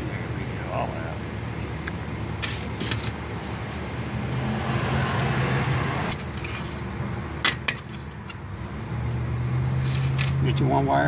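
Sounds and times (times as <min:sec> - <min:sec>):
engine humming: 0:00.0 - 0:10.9.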